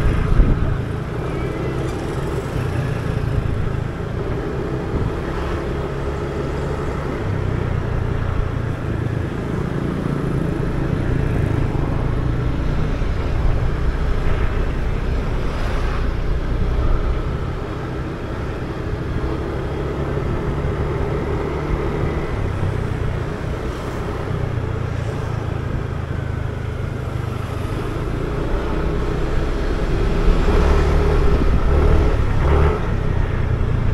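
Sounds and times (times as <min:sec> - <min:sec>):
low rumble of riding noise: 0:00.0 - 0:33.9.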